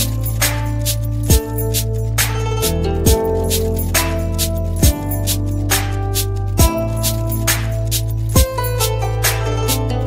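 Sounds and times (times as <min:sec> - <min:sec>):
music with bass and drums: 0:00.0 - 0:10.0.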